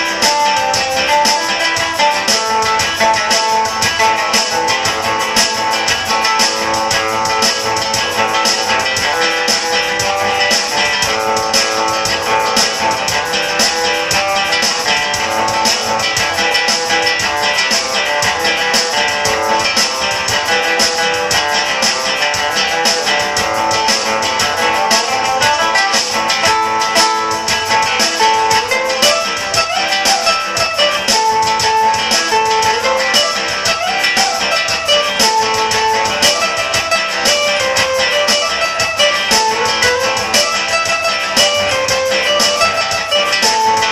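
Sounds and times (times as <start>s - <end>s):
music with strummed guitars: 0.0s - 43.9s.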